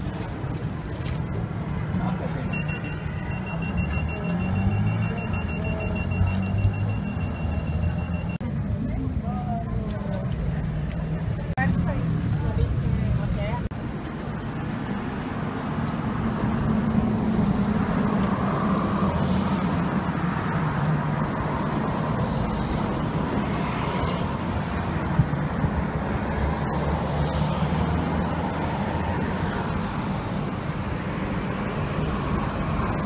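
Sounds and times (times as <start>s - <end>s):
street noise: 0.0s - 33.0s
vehicle engines humming: 0.0s - 33.0s.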